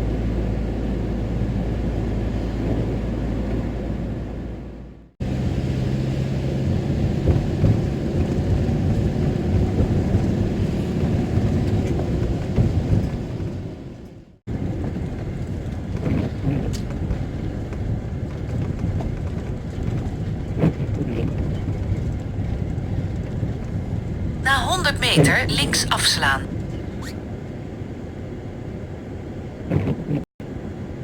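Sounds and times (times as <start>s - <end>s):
engine and road noise: 0.0s - 31.0s.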